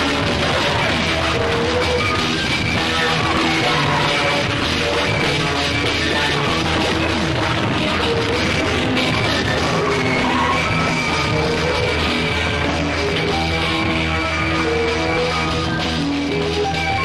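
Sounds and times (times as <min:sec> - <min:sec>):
experimental art-rock music: 0:00.0 - 0:17.0.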